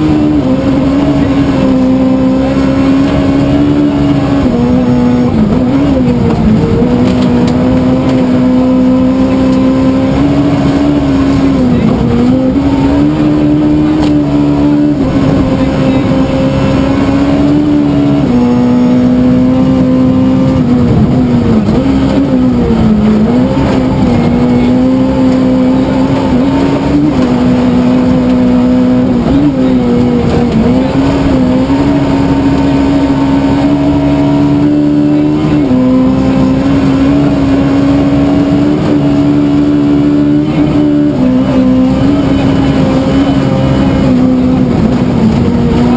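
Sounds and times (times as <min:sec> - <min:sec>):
rally car engine at high revs: 0:00.0 - 0:45.9.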